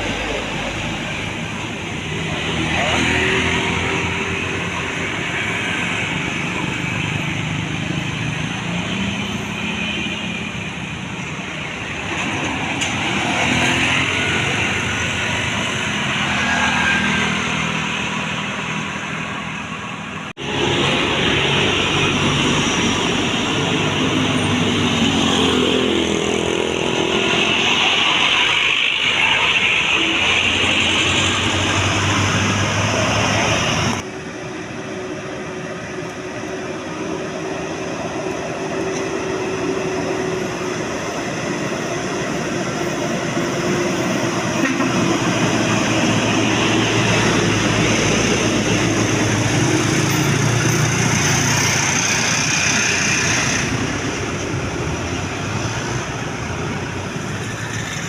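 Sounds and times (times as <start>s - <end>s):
heavy vehicles passing on road: 0.0s - 58.0s.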